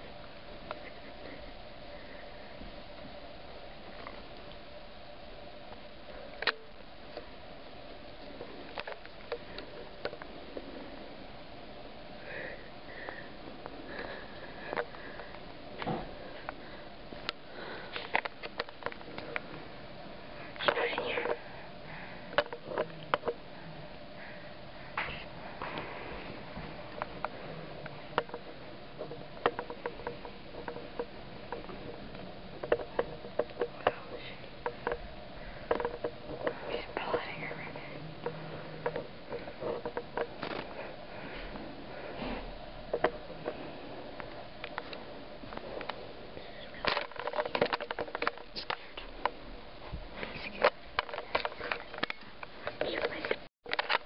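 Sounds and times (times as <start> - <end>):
faint steady hiss: 0.0 - 54.0.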